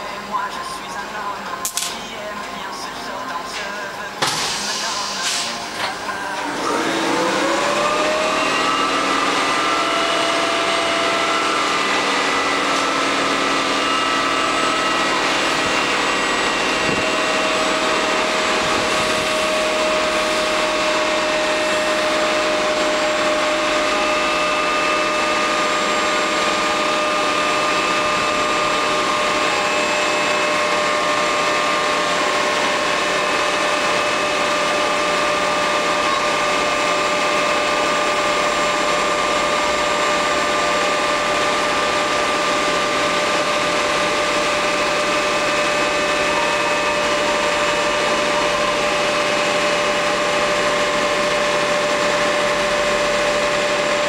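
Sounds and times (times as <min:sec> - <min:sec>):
compressor whining: 0:04.2 - 0:54.0.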